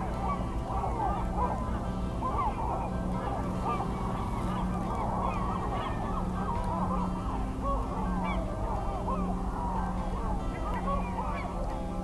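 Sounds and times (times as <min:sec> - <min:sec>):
chorus of waterbirds calling: 0:00.0 - 0:12.0.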